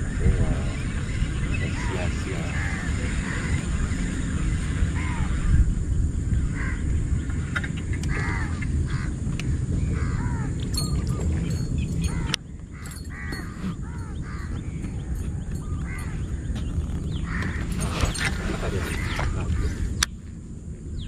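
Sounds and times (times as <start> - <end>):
birds calling: 0.0 - 21.0
steady low rumble: 0.0 - 21.0.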